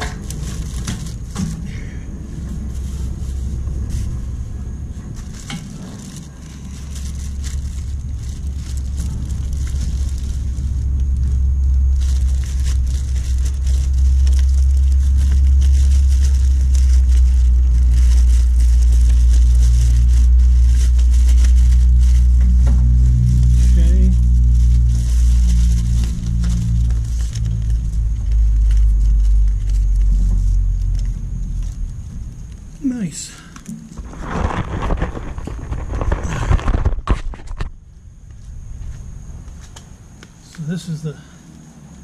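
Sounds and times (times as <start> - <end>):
loud steady low rumble: 0.0 - 40.2
plastic wrap crinkling: 0.0 - 40.6.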